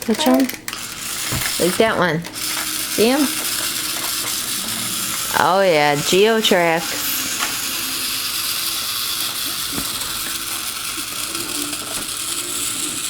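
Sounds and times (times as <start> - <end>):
toy train running on track: 0.0 - 13.0.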